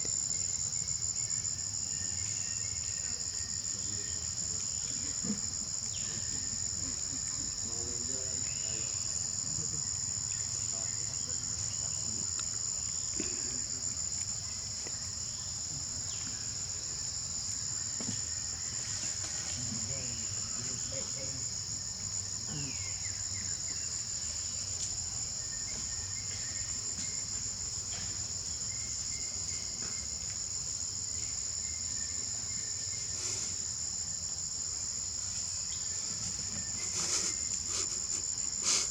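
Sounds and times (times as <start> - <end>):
insects chorus drone: 0.0 - 38.9.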